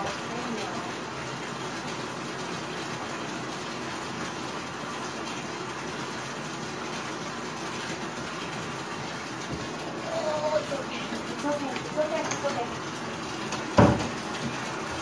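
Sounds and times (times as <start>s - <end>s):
water pouring into bathtub: 0.0s - 15.0s.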